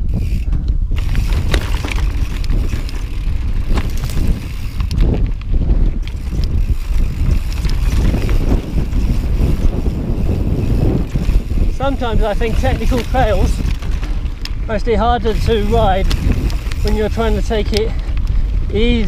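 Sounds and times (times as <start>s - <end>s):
bike rattling on rocky trail: 0.0s - 19.0s
wind buffeting microphone: 0.0s - 19.0s.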